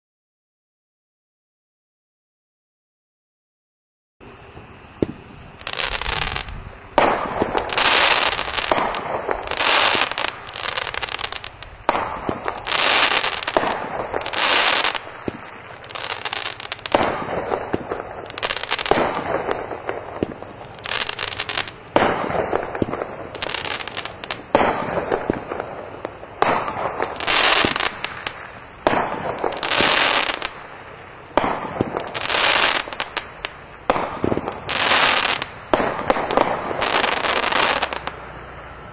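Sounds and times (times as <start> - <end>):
fireworks bursting with crackling pops: 4.2 - 38.9.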